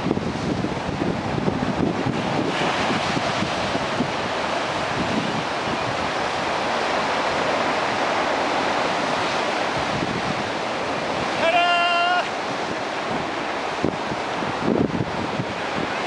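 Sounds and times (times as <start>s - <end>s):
wind buffeting microphone: 0.0s - 11.5s, 12.2s - 16.0s
surf breaking over rocks: 0.0s - 16.0s.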